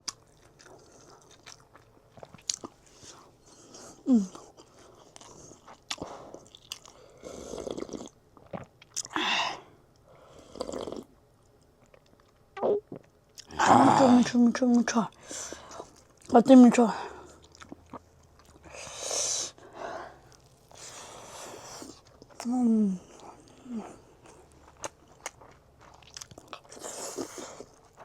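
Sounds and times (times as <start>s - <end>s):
person chewing and crunching food: 0.0s - 9.2s, 10.0s - 16.4s, 17.0s - 18.9s, 19.7s - 28.0s.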